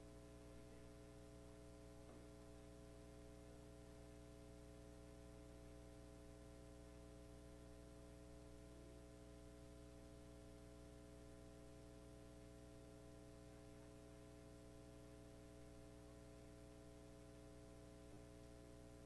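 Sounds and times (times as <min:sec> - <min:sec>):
faint electrical hum and hiss: 0:00.0 - 0:19.0.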